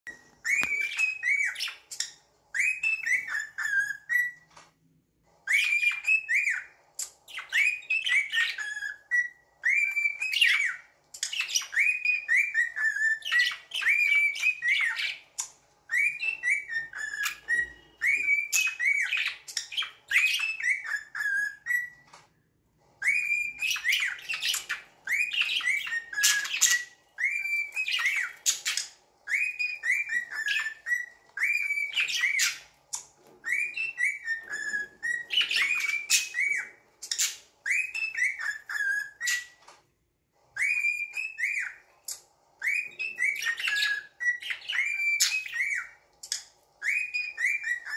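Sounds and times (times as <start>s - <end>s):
bird chirping: 0.0s - 47.9s.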